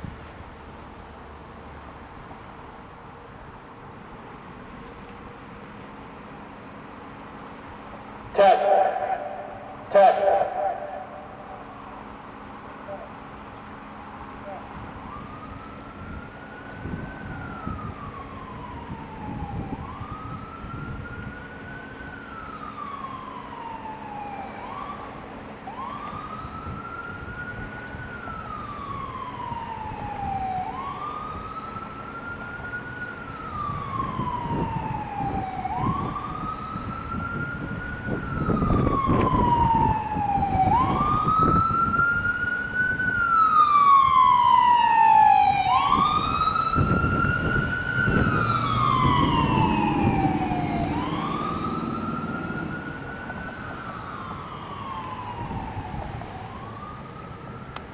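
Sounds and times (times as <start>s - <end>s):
outdoor warning siren: 0.0s - 57.9s.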